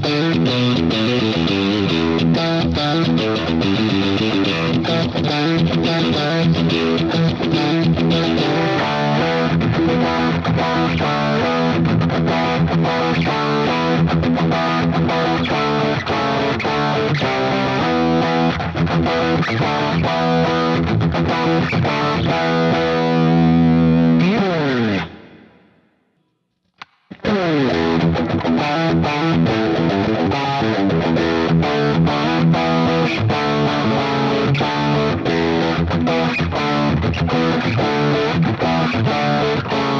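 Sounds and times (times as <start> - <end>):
distorted electric guitar riff: 0.0 - 26.1, 26.8 - 39.9.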